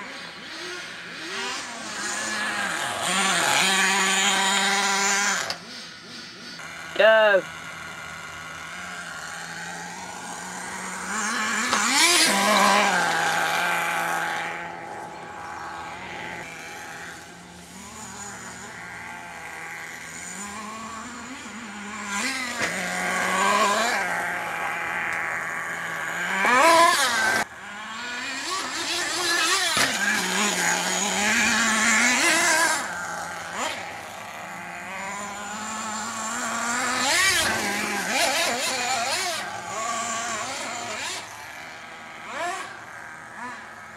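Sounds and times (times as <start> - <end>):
small glow engine revving and idling: 0.0 - 43.9.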